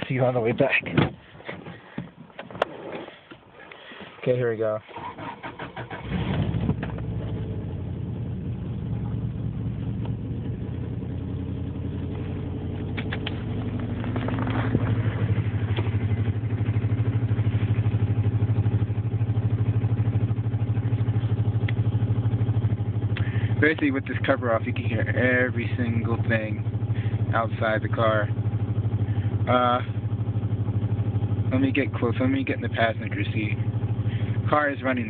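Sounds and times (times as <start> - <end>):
car engine starting and idling: 0.0 - 35.0.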